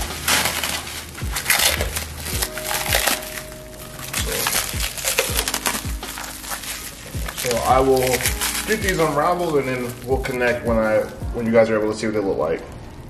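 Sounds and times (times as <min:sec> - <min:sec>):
background music with deep beat: 0:00.0 - 0:11.9
plastic wrap crinkling: 0:00.0 - 0:12.6.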